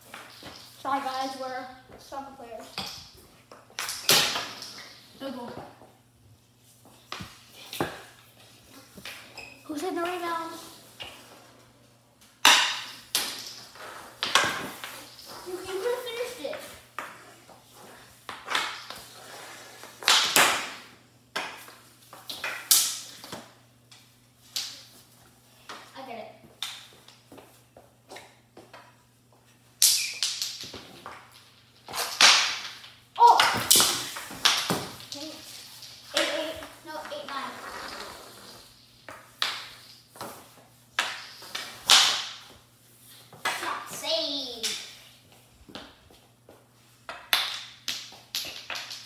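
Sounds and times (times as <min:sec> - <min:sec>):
hockey sticks hitting wooden floor: 0:00.0 - 0:05.9, 0:06.8 - 0:11.6, 0:12.2 - 0:29.0, 0:29.7 - 0:49.0
hockey sticks scraping floor: 0:00.0 - 0:05.9, 0:06.6 - 0:11.7, 0:12.4 - 0:23.6, 0:24.4 - 0:49.0.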